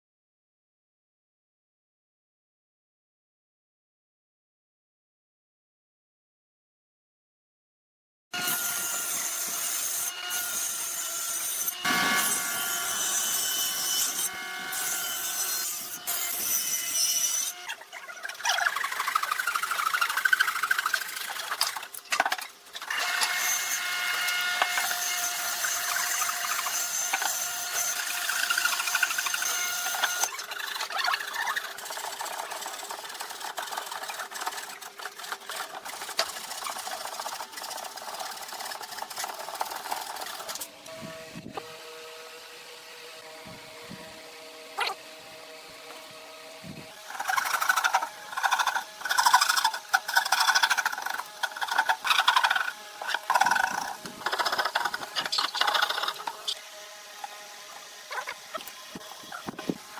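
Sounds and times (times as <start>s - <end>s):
wood cutting or sanding hiss: 8.4s - 17.6s, 18.2s - 22.0s, 22.8s - 59.9s
power tool whine: 8.4s - 59.9s.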